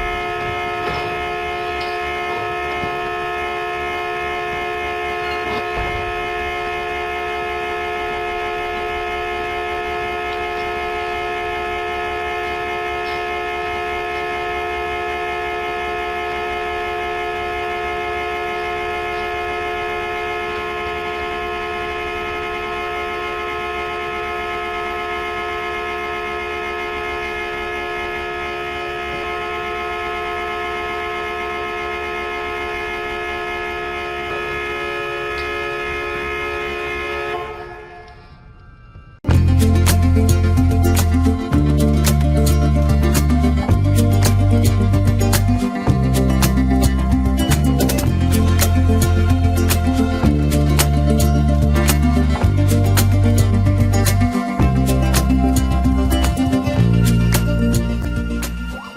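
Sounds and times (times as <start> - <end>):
car horn blaring: 0.0 - 58.9.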